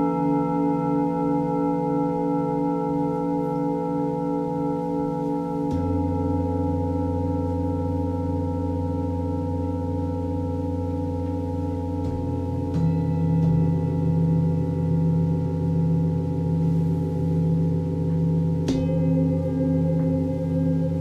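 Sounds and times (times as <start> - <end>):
singing bowl struck: 0.0 - 21.0
singing bowls ringing: 0.0 - 21.0.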